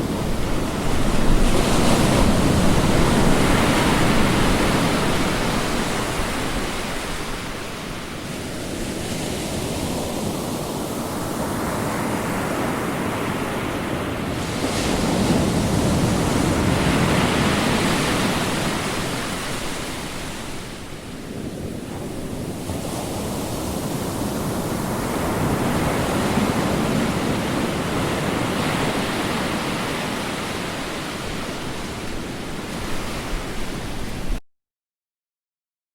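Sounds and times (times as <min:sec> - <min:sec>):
ocean waves washing ashore: 0:00.0 - 0:34.4.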